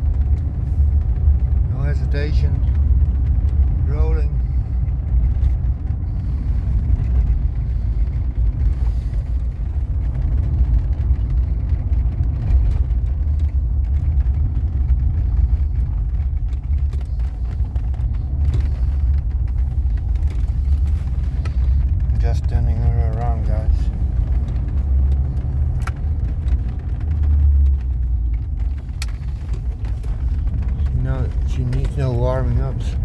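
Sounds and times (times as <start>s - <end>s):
car engine low rumble: 0.0s - 33.0s.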